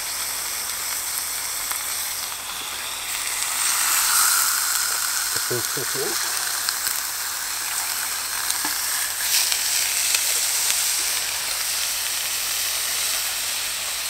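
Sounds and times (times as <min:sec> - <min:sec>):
burgers sizzling in a pan: 0:00.0 - 0:14.0.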